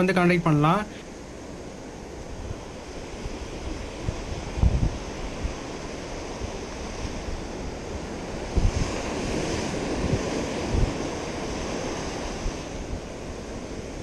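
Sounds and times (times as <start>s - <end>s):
waves washing up beach: 0.0s - 14.0s
wind thumps on microphone: 2.3s - 14.0s.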